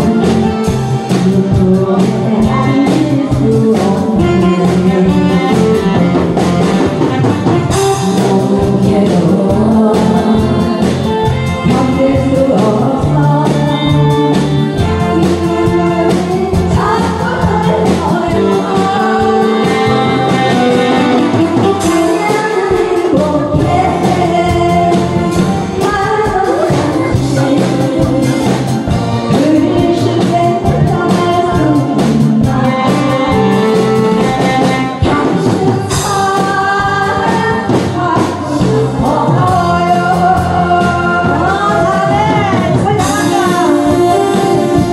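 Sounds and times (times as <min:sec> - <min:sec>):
instrumental accompaniment with beat: 0:00.0 - 0:44.9
woman singing into microphone: 0:00.0 - 0:44.9.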